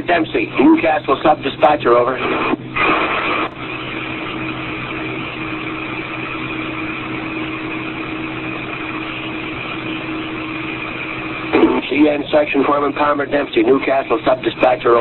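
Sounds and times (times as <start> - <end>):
low steady hum: 0.0 - 15.0
radio channel hiss: 0.0 - 15.0.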